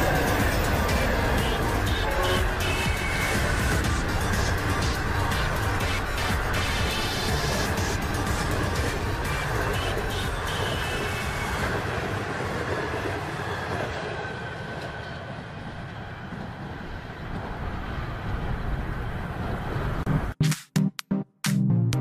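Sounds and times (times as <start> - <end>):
train rumbling along track: 0.0 - 20.4.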